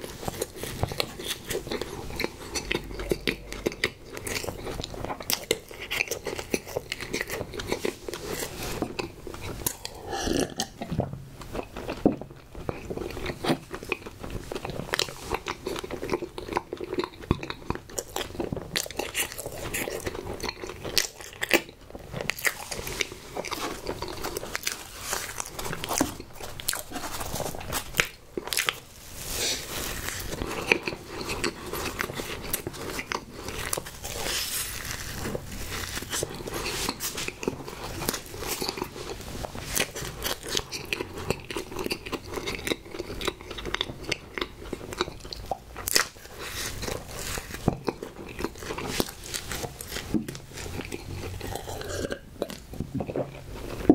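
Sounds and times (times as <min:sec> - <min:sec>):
chewing and biting cake: 0:00.0 - 0:53.9.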